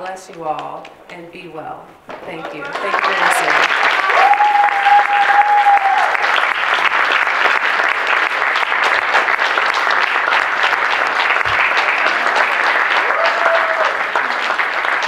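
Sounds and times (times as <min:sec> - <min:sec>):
audience applauding: 0:02.0 - 0:15.0.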